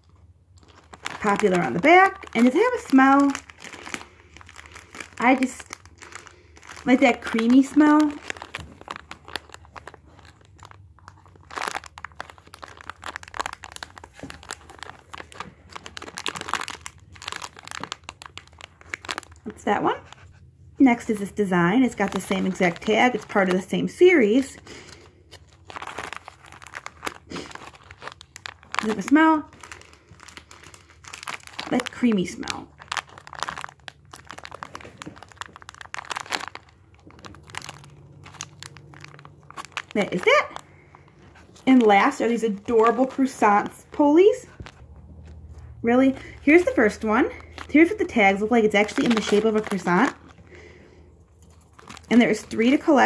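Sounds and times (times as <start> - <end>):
plastic bag crinkling: 0.0 - 53.0.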